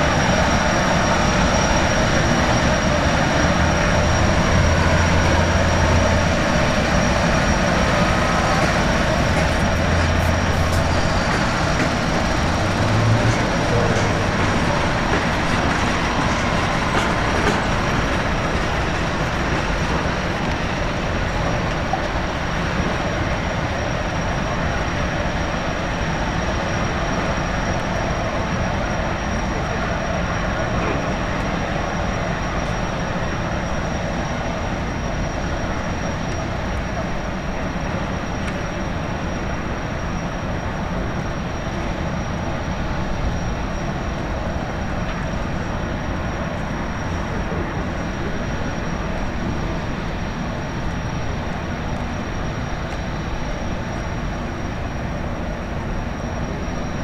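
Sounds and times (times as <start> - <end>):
turbines and water jets rushing: 0.0 - 57.0.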